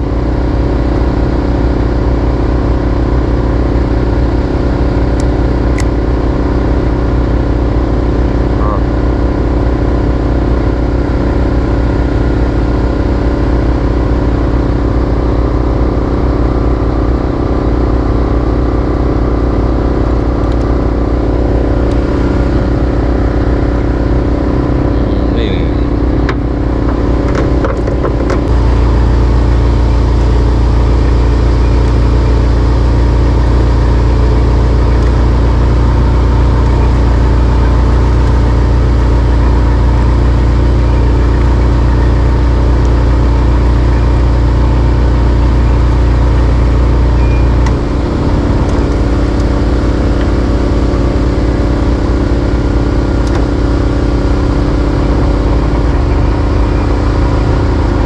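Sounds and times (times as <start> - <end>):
boat engine rumbling: 0.0 - 58.0.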